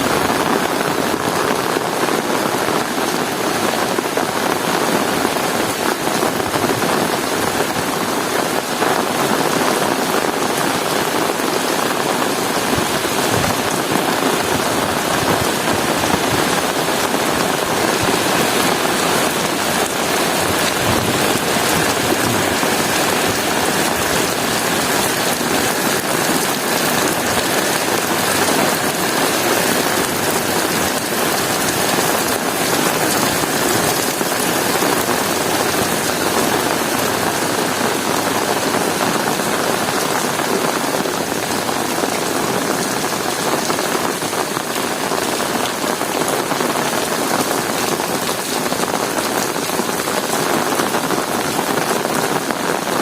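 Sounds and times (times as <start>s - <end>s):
heavy rain on hard surfaces: 0.0s - 53.0s.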